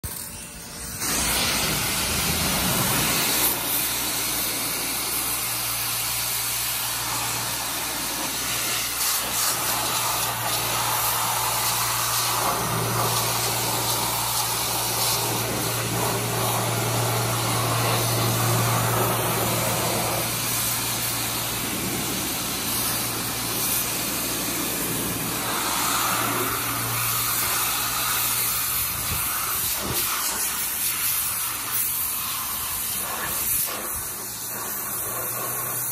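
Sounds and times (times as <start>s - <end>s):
pressure washer spray hiss: 0.1s - 35.9s.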